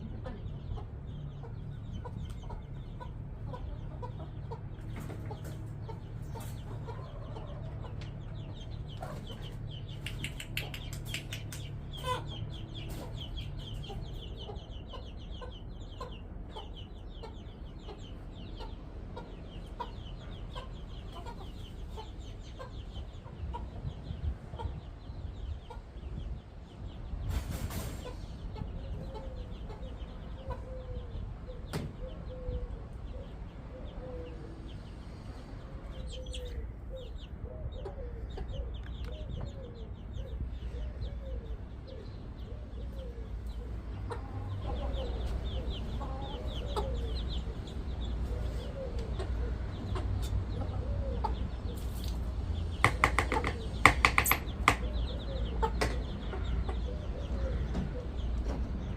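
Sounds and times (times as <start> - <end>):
chickens clucking and calling: 0.0 - 58.9.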